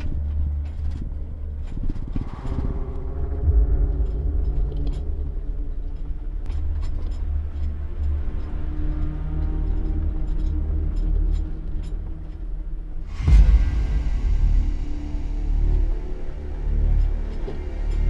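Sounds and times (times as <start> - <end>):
off-road vehicle engine rumbling: 0.0 - 18.0.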